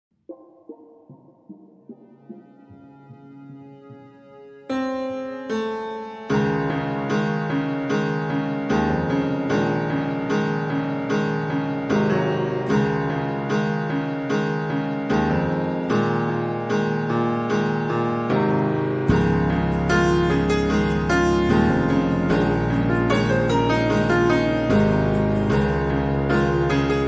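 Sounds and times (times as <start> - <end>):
keyboard melody: 0.1 - 27.0.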